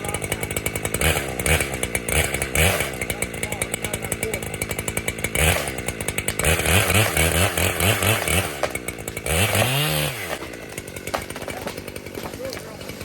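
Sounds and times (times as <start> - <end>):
chainsaw revving and cutting: 0.0 - 13.0.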